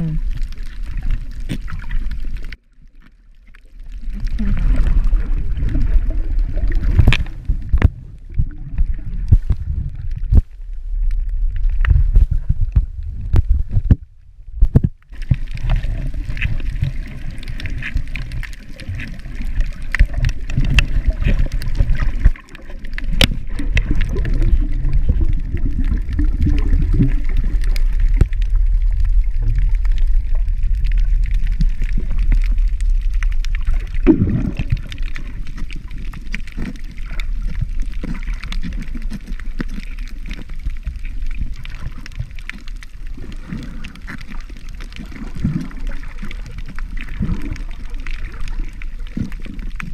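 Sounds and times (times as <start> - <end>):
muffled underwater rumbling: 0.0 - 49.9
underwater clicks and knocks: 0.0 - 49.9.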